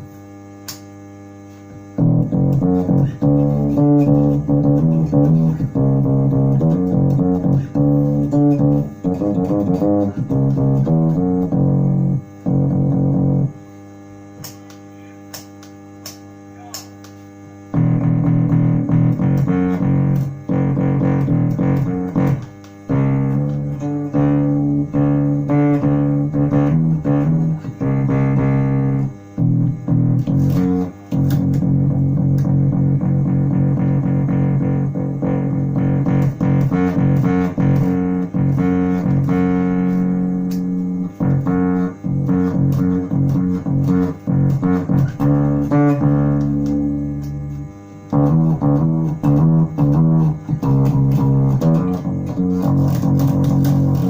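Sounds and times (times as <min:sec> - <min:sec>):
distorted electric bass: 0:00.0 - 0:54.0
steady electrical hum: 0:00.0 - 0:54.0.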